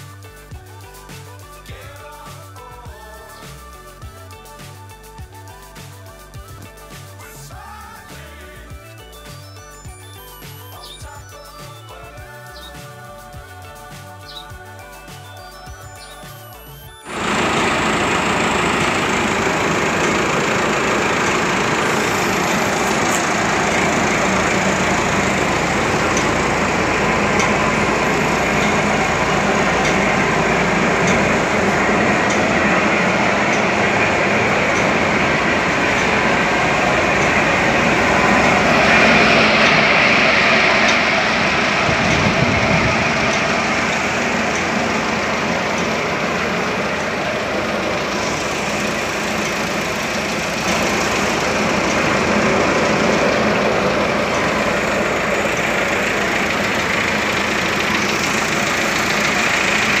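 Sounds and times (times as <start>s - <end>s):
tractor engine running: 0.0s - 60.0s.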